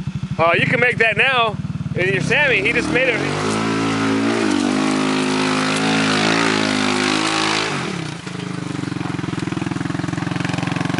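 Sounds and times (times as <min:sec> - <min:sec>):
utility vehicle engine revving: 0:00.0 - 0:10.9
tyres churning through dirt: 0:00.4 - 0:10.9.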